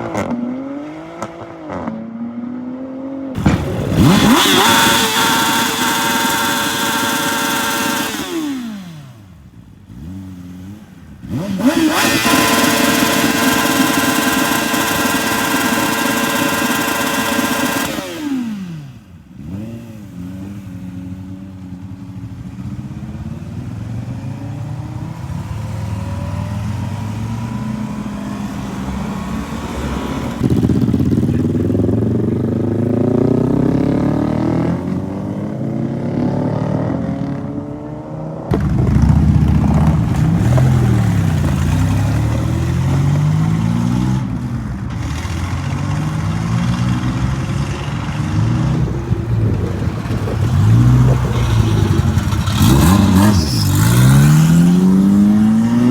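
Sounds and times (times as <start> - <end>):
car engines accelerating: 2.6 - 55.9
engine revving: 3.4 - 21.2, 24.0 - 55.9.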